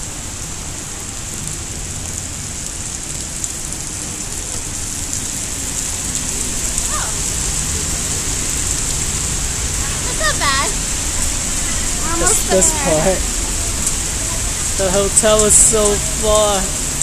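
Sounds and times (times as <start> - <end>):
heavy rain on pavement and trees: 0.0 - 17.0.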